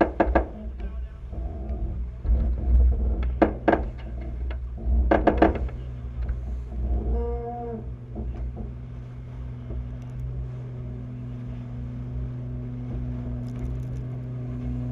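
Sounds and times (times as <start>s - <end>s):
low motor hum: 0.0s - 14.9s
water rushing along hull: 0.0s - 14.9s
wind: 0.0s - 14.9s.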